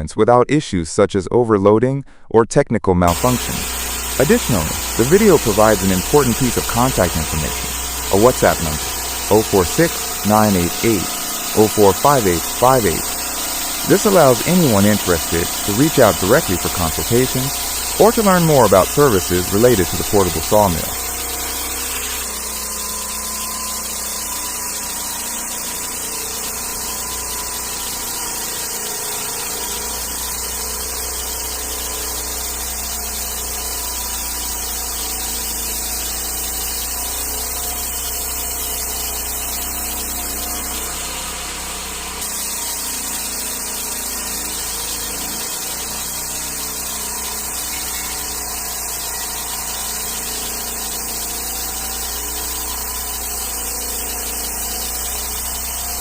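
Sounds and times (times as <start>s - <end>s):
small gasoline engine running: 3.1s - 56.0s.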